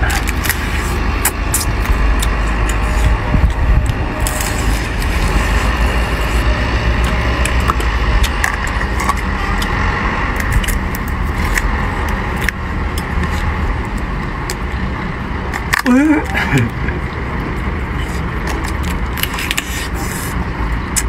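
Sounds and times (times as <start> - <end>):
crab shells cracking and crunching: 0.0 - 14.8, 15.5 - 17.0, 18.0 - 21.0
low outdoor rumble: 0.0 - 21.0.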